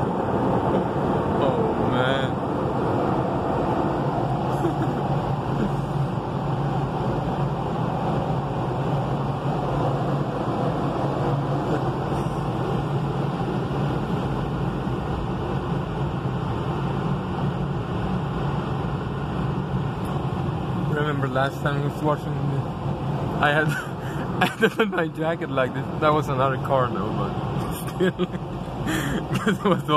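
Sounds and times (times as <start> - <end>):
car wash rushing noise: 0.0 - 29.9.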